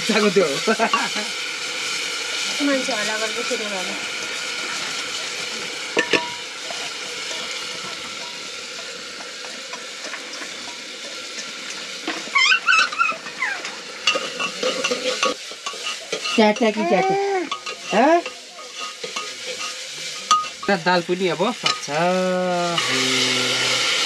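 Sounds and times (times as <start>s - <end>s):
lentils sizzling in oil: 0.0s - 24.0s.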